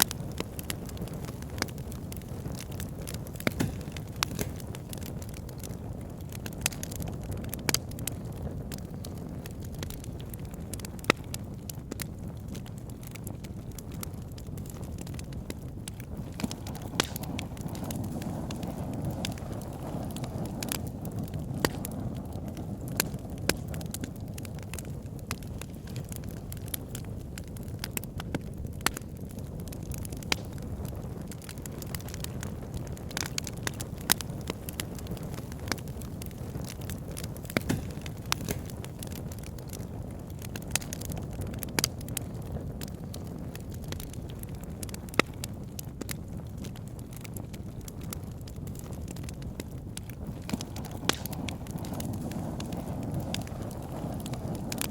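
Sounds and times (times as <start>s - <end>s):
campfire flames rushing: 0.0s - 54.9s
wood crackling and popping: 0.0s - 54.9s.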